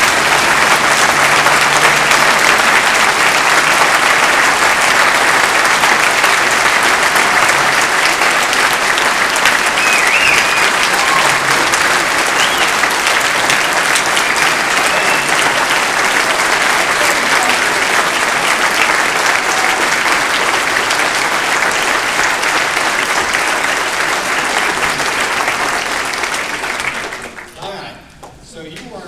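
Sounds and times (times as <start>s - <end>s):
audience applauding: 0.0s - 27.8s.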